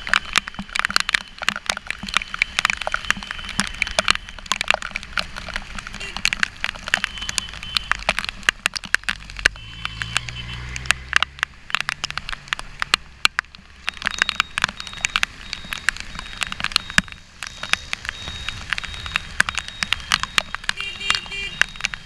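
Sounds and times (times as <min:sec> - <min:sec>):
engine and road rumble: 0:00.0 - 0:22.0
rain ticking on camera housing: 0:00.0 - 0:22.0.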